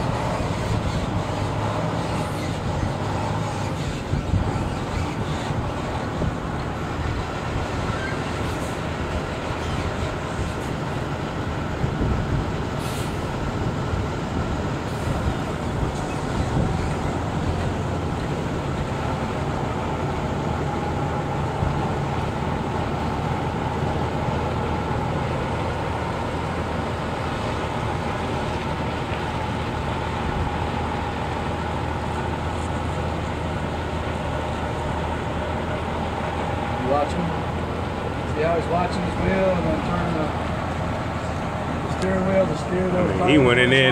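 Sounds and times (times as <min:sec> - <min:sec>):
diesel truck engine running: 0:00.0 - 0:43.9.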